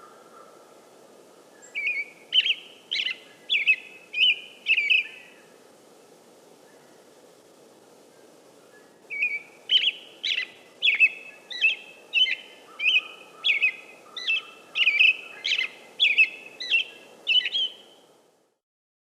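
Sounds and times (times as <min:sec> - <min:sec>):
faint background hiss: 0:00.0 - 0:18.6.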